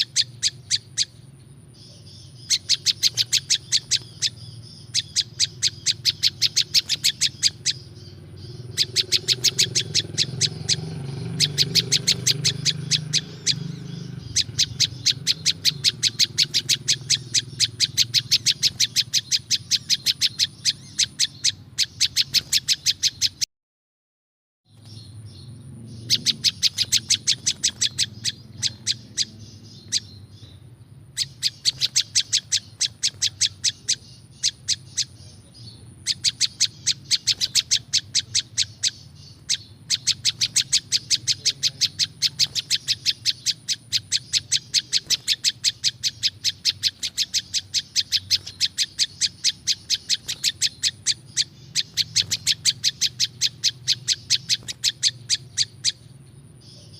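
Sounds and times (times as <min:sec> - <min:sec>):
songbird chip notes: 0:00.0 - 0:23.4, 0:24.7 - 0:56.9.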